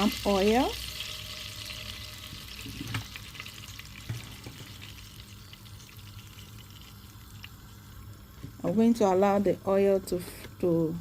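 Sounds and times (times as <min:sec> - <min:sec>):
oil sizzling in a pot: 0:00.0 - 0:11.0.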